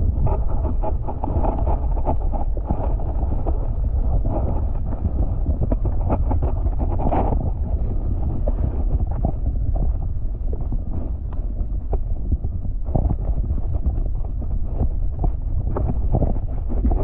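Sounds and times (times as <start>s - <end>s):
muffled underwater water rumble: 0.0s - 17.0s.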